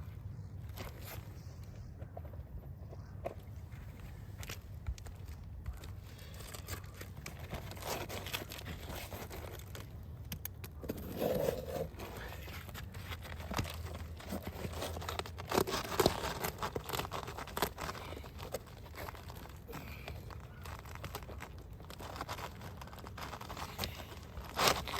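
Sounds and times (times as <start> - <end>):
shingles tearing and scraping: 3.8 - 24.9.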